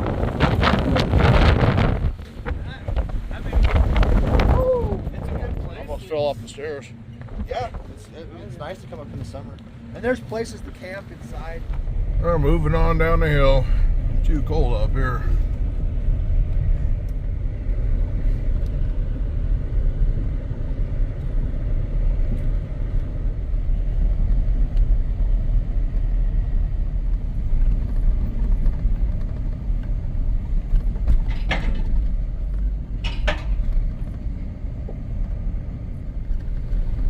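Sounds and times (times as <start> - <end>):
off-road vehicle driving on dirt: 0.0 - 37.0.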